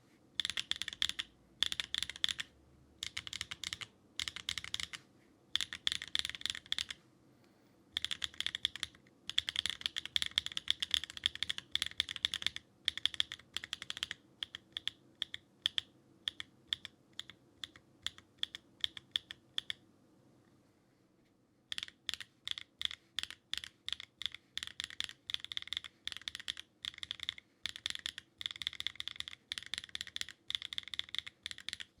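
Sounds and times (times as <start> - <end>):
mechanical keyboard typing: 0.4 - 5.0, 5.6 - 7.0, 8.0 - 19.8, 21.7 - 32.0.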